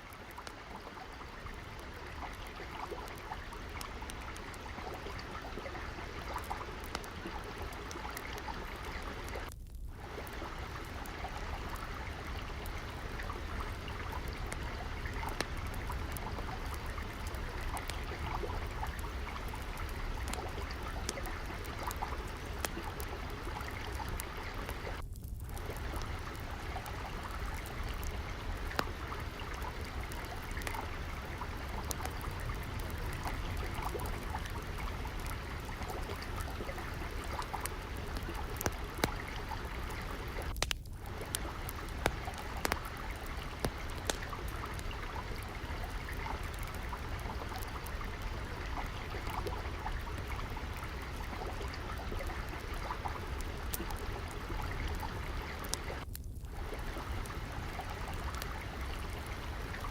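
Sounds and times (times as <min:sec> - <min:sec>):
stream water trickling: 0:00.0 - 0:59.9
wood fire crackling: 0:00.0 - 0:59.9.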